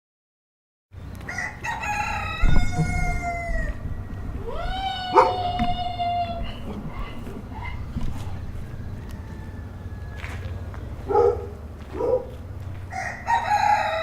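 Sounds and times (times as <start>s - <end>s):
barnyard background rumble: 1.0s - 14.0s
rooster crowing: 1.2s - 14.0s.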